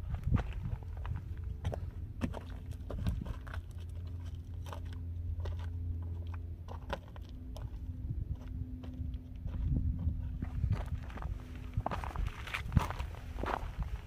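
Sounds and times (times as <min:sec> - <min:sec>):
footsteps crunching on stony ground: 0:00.0 - 0:14.0
steady low hum: 0:00.0 - 0:14.0.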